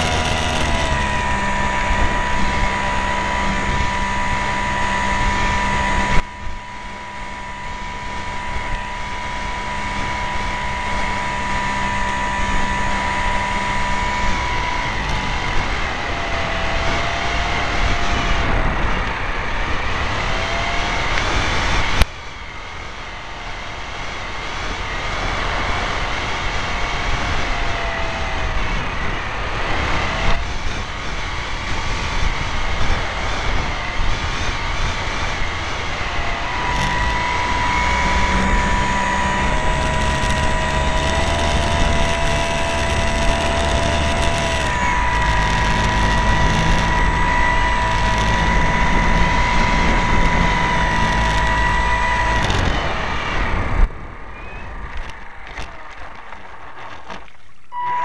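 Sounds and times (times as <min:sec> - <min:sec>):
model airplane motor droning: 0:00.0 - 0:58.0.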